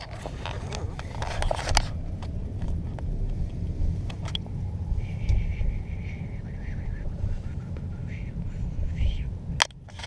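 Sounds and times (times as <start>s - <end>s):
road rumble inside car: 0.0s - 10.0s.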